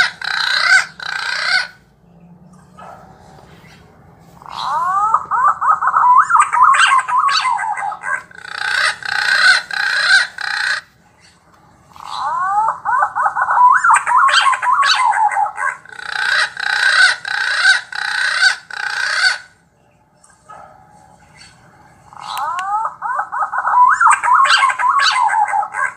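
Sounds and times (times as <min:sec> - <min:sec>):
recorded bird call from speaker: 0:00.0 - 0:25.9.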